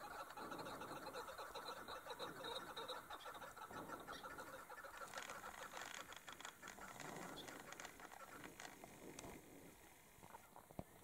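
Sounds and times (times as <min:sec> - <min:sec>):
partridge clucking calls: 0:00.0 - 0:08.9.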